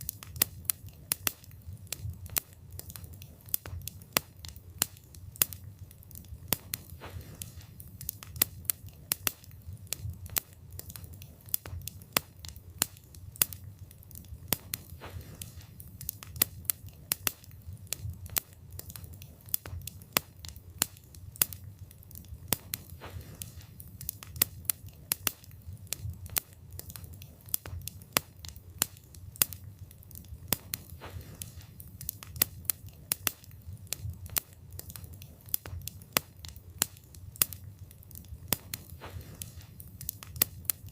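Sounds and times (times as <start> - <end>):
burning wood crackling and popping: 0.0 - 40.9
fire rumbling: 0.0 - 40.9.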